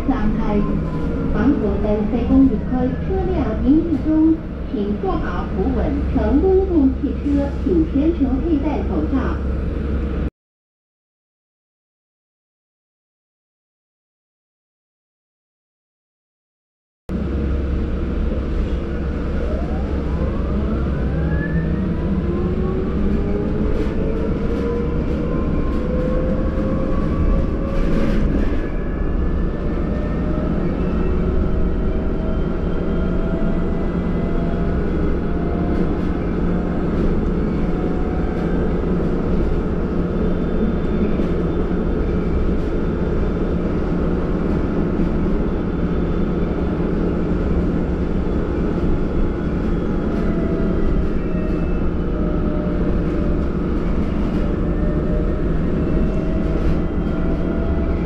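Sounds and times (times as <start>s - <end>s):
bus engine rumble and whine: 0.0s - 10.3s, 17.1s - 58.0s.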